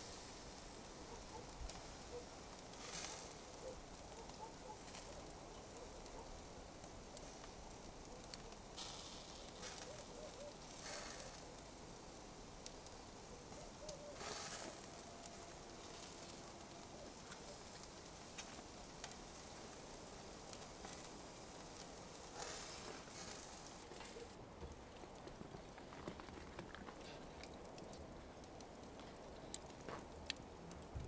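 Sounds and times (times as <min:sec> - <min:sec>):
burning coals crackling: 0:00.0 - 0:31.0
soft steady hiss: 0:00.0 - 0:31.0.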